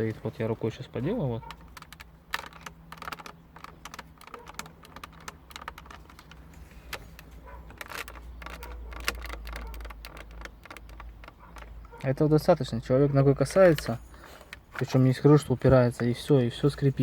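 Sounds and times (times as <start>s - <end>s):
plastic creaking and crackling: 0.0s - 17.0s.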